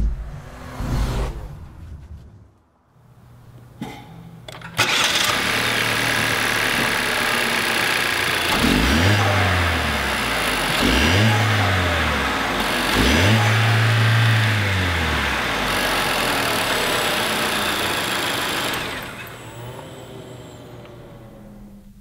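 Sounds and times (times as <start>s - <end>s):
car engine revving: 0.0s - 2.6s, 4.8s - 22.0s.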